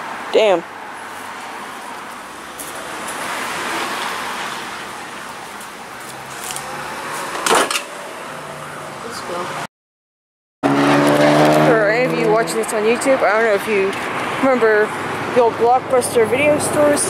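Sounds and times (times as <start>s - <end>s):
road traffic noise: 0.0s - 9.7s, 10.6s - 17.0s.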